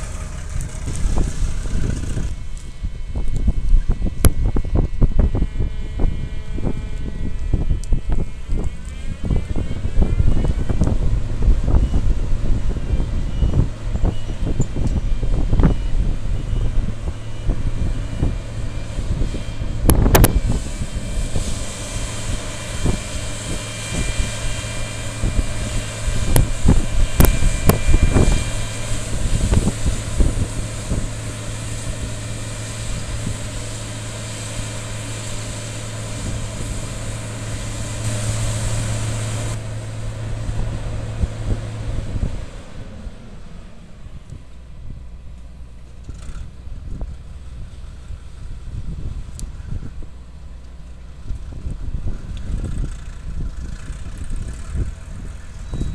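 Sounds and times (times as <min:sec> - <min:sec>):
combine harvester running: 0:00.0 - 0:55.9
wind buffeting microphone: 0:00.0 - 0:55.9.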